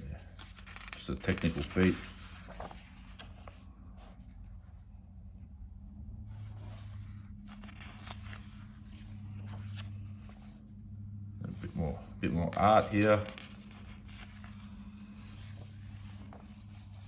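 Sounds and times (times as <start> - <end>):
pages being handled: 0.0 - 4.5, 6.3 - 10.8, 11.5 - 17.0
magazine page turning: 0.0 - 5.0, 6.1 - 17.0
low steady hum: 0.0 - 17.0.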